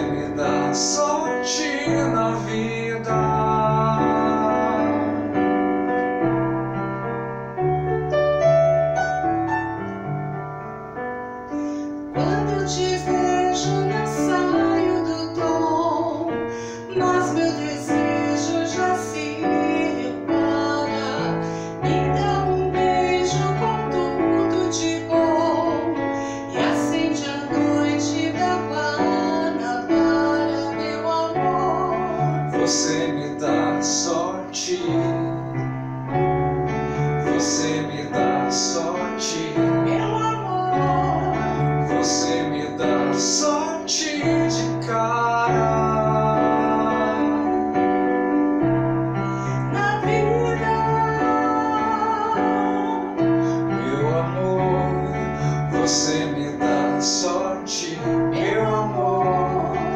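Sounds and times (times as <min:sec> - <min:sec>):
electronic keyboard playing pop song: 0:00.0 - 0:59.9.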